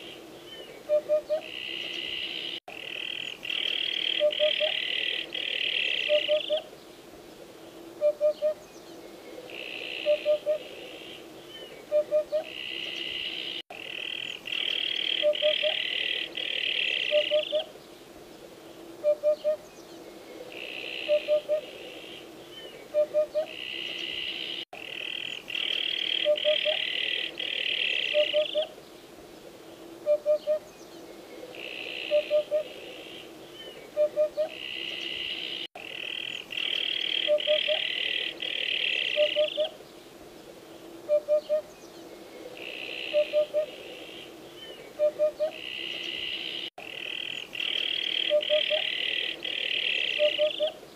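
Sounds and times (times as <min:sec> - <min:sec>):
bird hooting calls: 0:00.0 - 0:06.7, 0:08.0 - 0:08.6, 0:09.3 - 0:17.7, 0:19.0 - 0:28.8, 0:30.0 - 0:39.8, 0:40.8 - 0:50.8.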